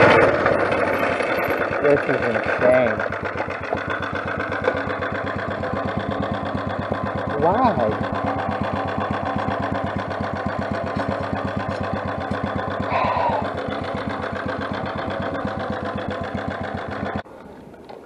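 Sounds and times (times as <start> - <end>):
motorized bicycle engine idling: 0.0 - 18.0.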